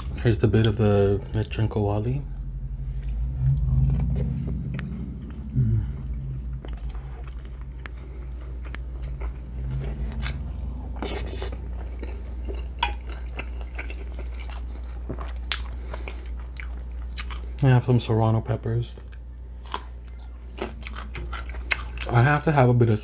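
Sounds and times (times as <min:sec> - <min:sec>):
close-up chewing: 0:00.0 - 0:17.7, 0:18.9 - 0:22.5
steady low hum: 0:00.0 - 0:23.0.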